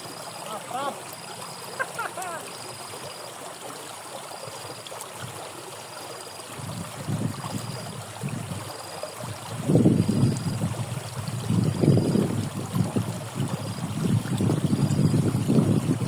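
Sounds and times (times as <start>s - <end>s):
water flowing in a ditch: 0.0s - 16.0s.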